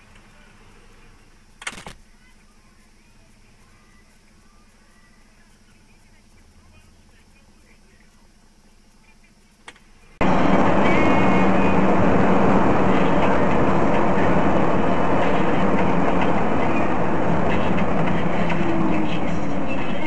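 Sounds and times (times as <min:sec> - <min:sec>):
vehicle running rumble: 0:00.0 - 0:20.0.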